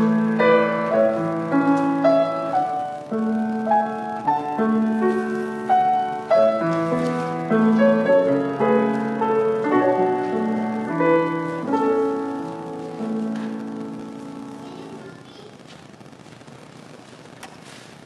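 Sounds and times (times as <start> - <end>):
grand piano slow chords: 0.0 - 15.2.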